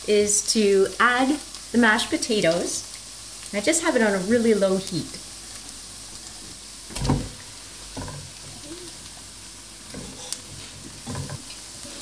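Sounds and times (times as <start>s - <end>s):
shallots sizzling in butter: 0.0s - 12.0s.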